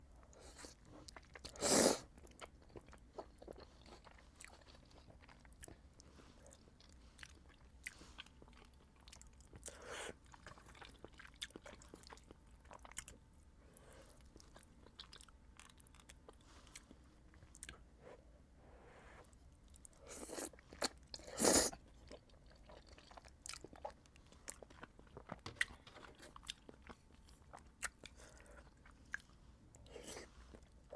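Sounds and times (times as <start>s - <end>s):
chewing noodles: 0.3s - 13.2s, 14.0s - 17.8s, 19.7s - 30.9s.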